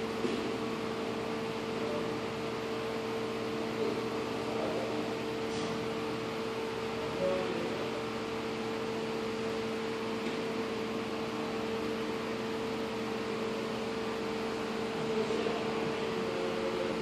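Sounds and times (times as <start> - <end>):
ventilation fan humming: 0.0 - 17.0.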